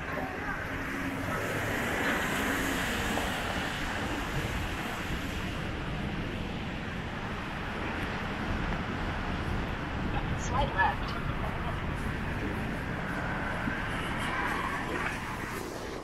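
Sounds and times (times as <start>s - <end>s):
rumble of passing vehicles: 0.0s - 16.0s.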